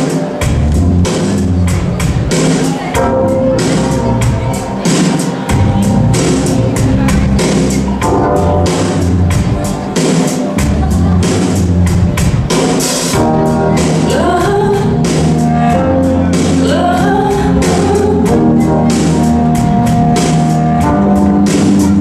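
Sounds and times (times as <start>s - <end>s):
song with singer drums and bass: 0.0s - 22.0s.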